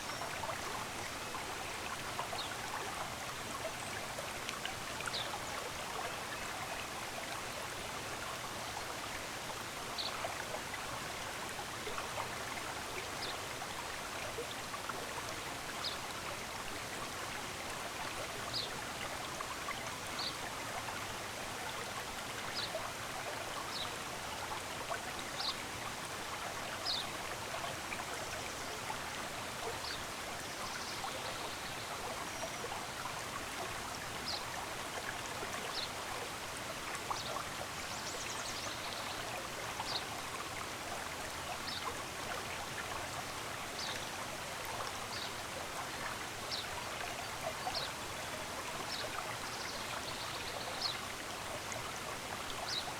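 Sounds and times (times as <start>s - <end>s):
flowing stream: 0.0s - 52.9s.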